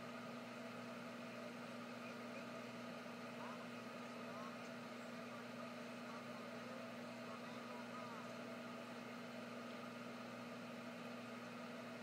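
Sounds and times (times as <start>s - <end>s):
aquarium pumps humming: 0.0s - 12.0s.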